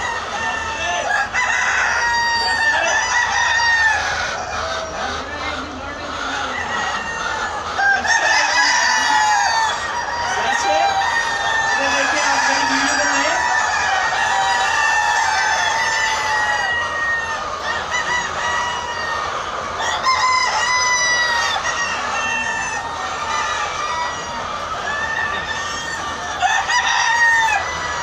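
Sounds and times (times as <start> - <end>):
hens calling and clucking: 0.0 - 28.0.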